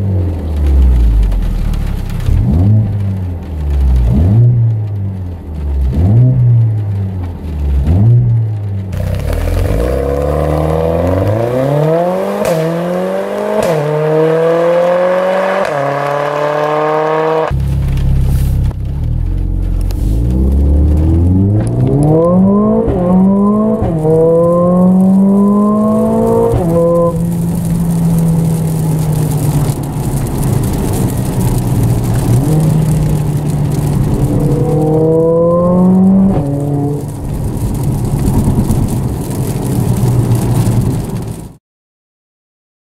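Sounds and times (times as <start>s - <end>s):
car engine accelerating through gears: 0.0s - 41.4s.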